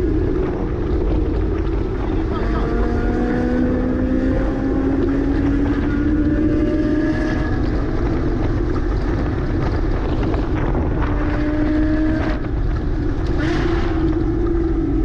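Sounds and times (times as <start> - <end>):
car engine running: 0.0 - 15.0
wind noise: 0.0 - 15.0.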